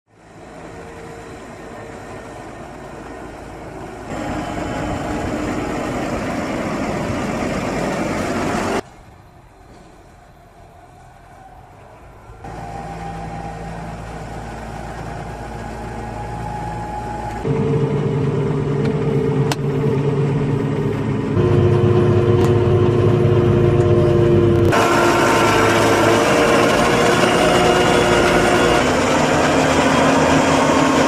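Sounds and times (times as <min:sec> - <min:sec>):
tractor diesel engine running: 0:00.1 - 0:31.0.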